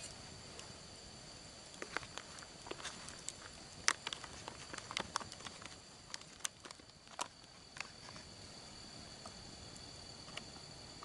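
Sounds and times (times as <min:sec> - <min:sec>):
campfire crackling: 0:00.0 - 0:11.0
faint hiss: 0:00.0 - 0:11.0.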